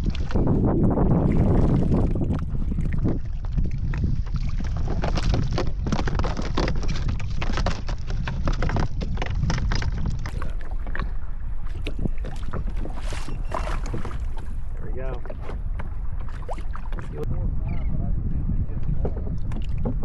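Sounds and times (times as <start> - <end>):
water splashing against kayak hull: 0.0 - 17.3, 18.9 - 20.0
wind buffeting microphone: 0.0 - 20.0.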